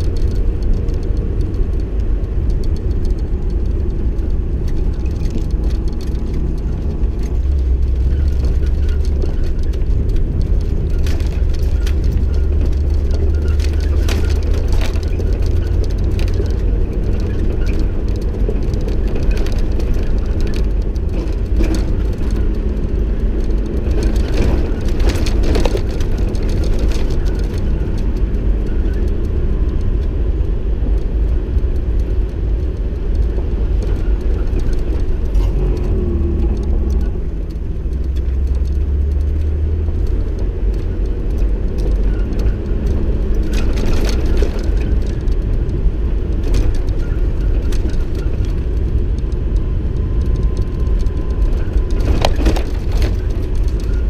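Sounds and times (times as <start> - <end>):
engine and tyre rumble: 0.0 - 54.0
rattles and knocks from bumps: 0.0 - 54.0.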